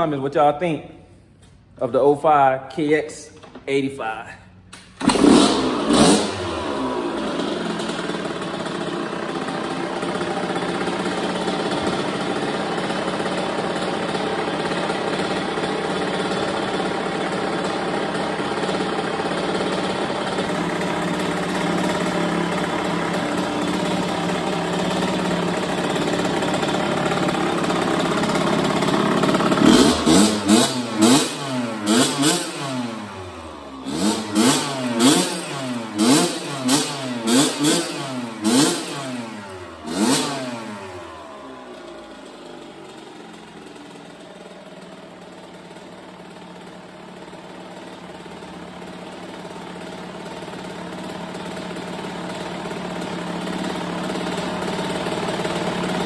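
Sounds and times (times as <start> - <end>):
motorcycle engine idling and revving: 4.8 - 56.0.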